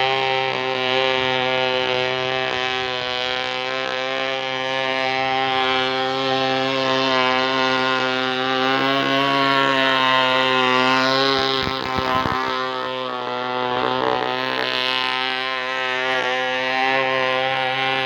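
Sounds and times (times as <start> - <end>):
small engine running at high revs: 0.0 - 18.0.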